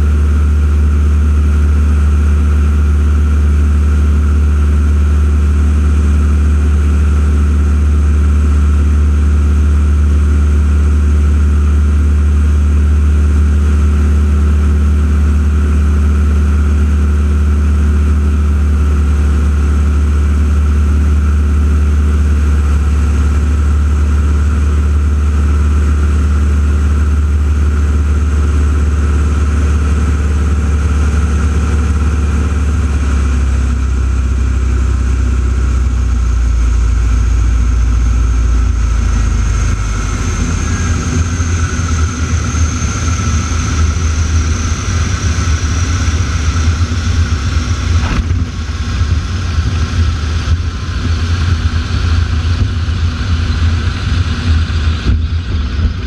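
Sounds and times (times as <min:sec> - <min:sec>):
deep engine drone: 0:00.0 - 0:56.0.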